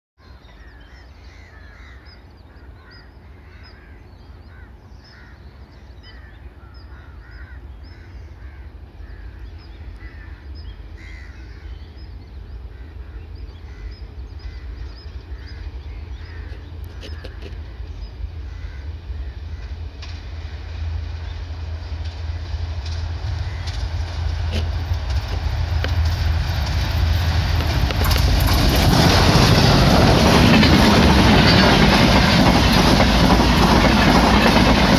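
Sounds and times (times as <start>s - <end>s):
diesel locomotives passing: 0.3s - 34.9s.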